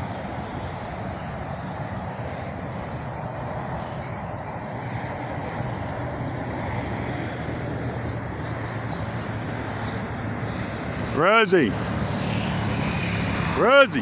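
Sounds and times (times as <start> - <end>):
freeway traffic rushing: 0.0 - 14.0.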